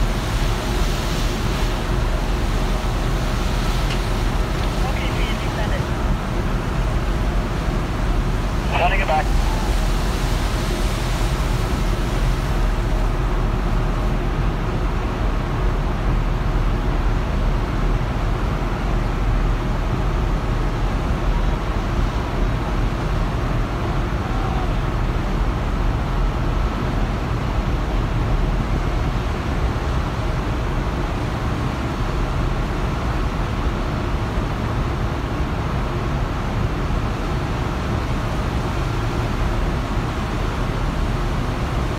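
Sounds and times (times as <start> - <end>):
churning sea water: 0.0 - 41.9.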